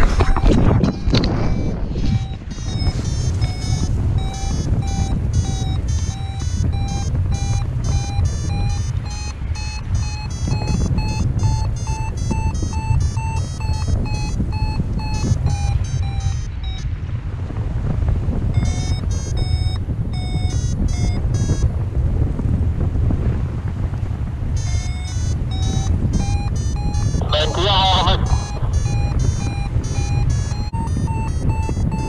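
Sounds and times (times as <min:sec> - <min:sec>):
variometer climb beeps: 0:00.0 - 0:17.0, 0:18.4 - 0:21.7, 0:24.5 - 0:32.0
wind noise on microphone: 0:00.0 - 0:32.0.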